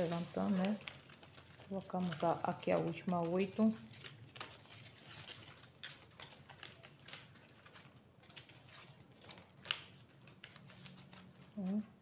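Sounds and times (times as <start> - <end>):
leaf strips rustling and clicking: 0.0 - 12.0.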